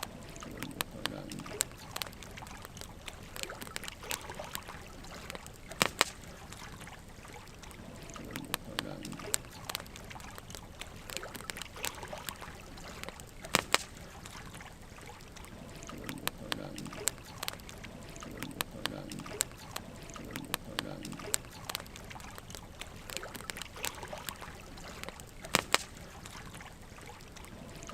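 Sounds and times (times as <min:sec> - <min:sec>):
logs crackling and popping: 0:00.0 - 0:27.9.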